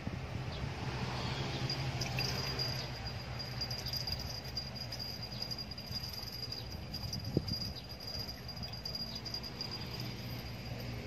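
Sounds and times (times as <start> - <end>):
low outdoor rumble: 1.6 - 11.0.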